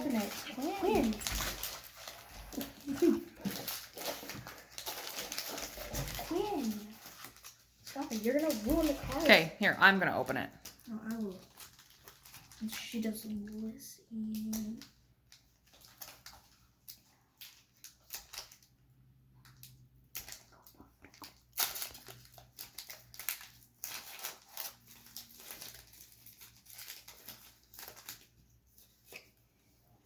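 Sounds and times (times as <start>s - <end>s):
foil wrapper crinkling and tearing: 0.0s - 9.3s, 10.5s - 29.4s.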